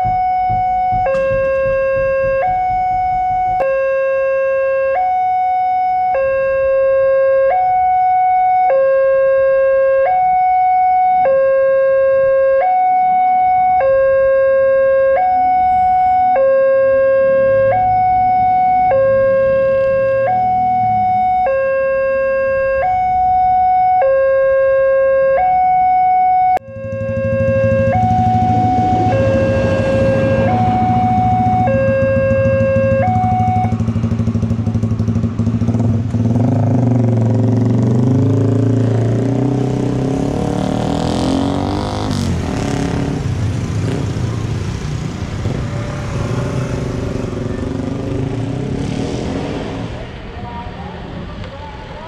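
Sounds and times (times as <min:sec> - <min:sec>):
two-tone electronic crossing alarm: 0:00.0 - 0:47.2.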